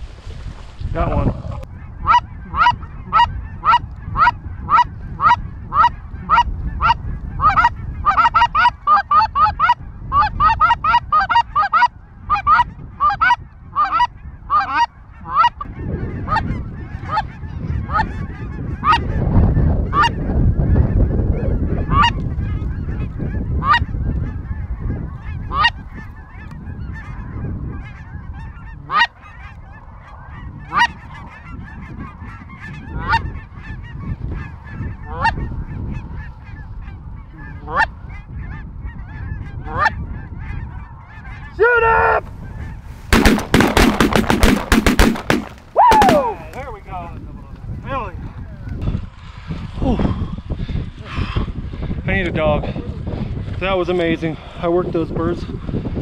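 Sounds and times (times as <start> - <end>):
geese honking: 1.7 - 47.0.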